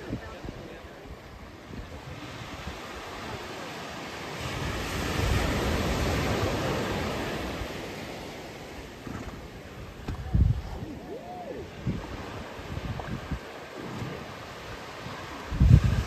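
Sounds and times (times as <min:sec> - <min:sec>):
ocean wave breaking on beach: 0:00.0 - 0:16.0.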